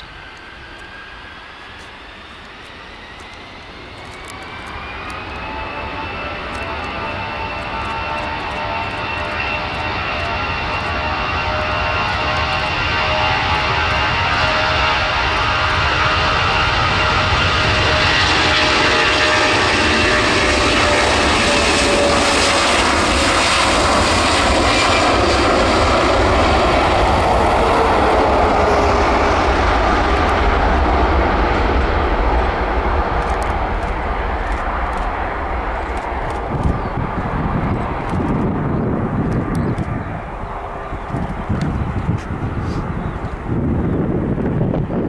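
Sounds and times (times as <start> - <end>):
jet engines at takeoff power: 0.0 - 45.0.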